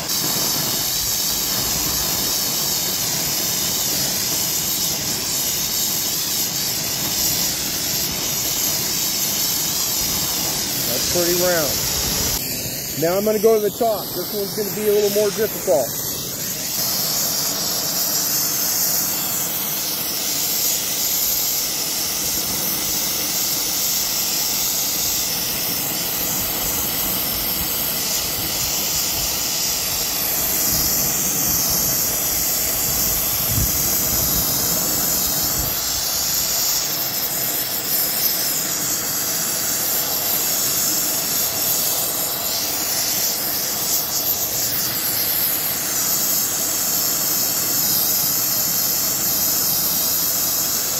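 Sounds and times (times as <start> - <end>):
gas torch flame hissing: 0.0 - 50.9.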